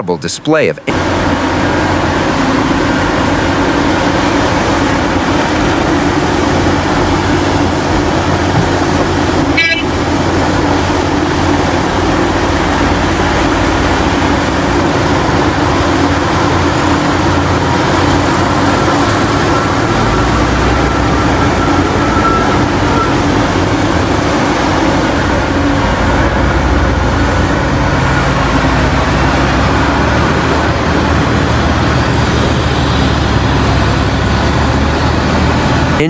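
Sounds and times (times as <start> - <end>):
heavy diesel machinery rumbling: 0.0 - 36.0.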